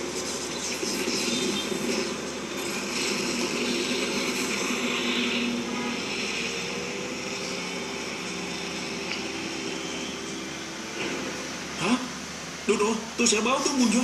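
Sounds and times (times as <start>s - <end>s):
dense rumbling drone: 0.8s - 12.7s.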